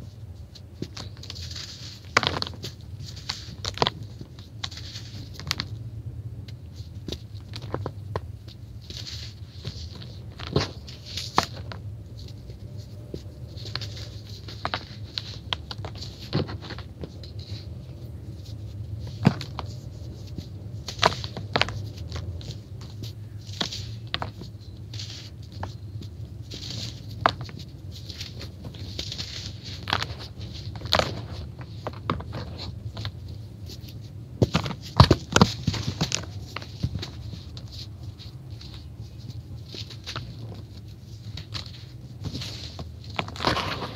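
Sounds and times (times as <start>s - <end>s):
gritty crunching and rustling: 0.0s - 43.9s.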